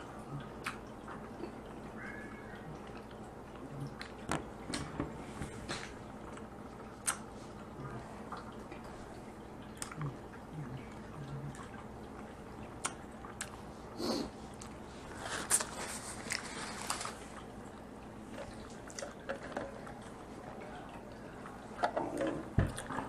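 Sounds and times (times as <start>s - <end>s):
chewing and wet squishes: 0.0s - 23.0s.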